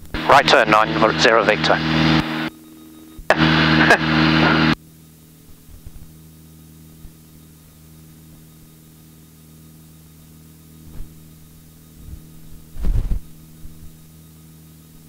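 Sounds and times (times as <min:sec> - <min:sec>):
aircraft engine and cabin noise: 0:00.0 - 0:15.0.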